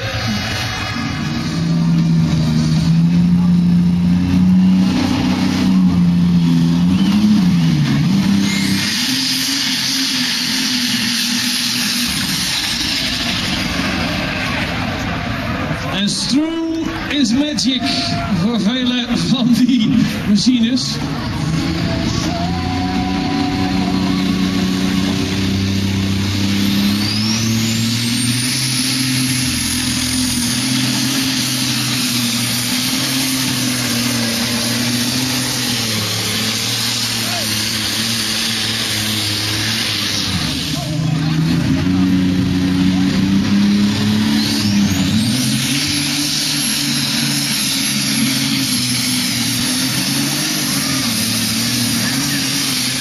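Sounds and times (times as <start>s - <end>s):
tractor engine running flat out: 0.0s - 53.0s.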